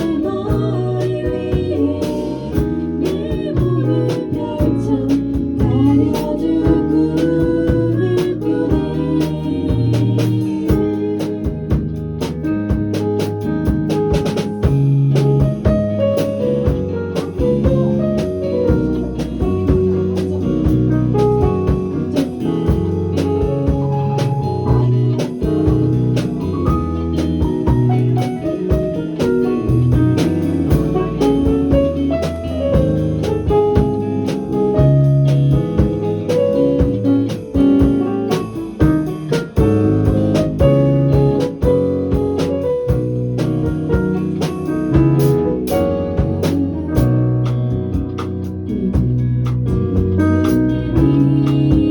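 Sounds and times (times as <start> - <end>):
band playing instrumental music: 0.0 - 51.9.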